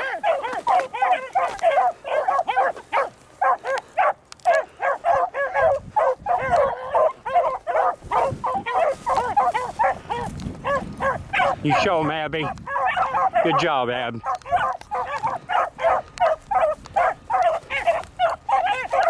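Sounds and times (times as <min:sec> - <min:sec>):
hounds baying: 0:00.0 - 0:19.0.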